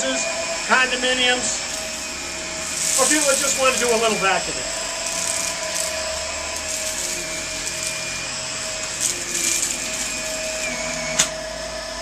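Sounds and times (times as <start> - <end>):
vacuum cleaner running on carpet: 0.0 - 12.0.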